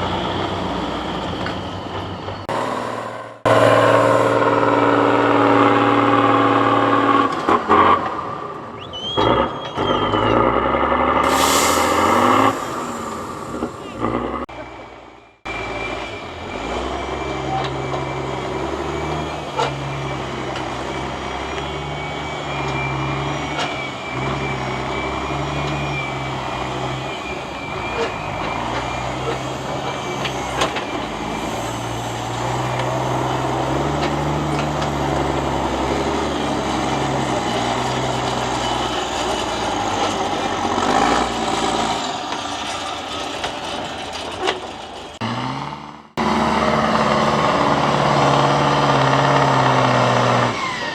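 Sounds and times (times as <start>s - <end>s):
truck diesel engine revving: 2.4s - 8.5s, 9.1s - 14.7s, 15.5s - 50.9s.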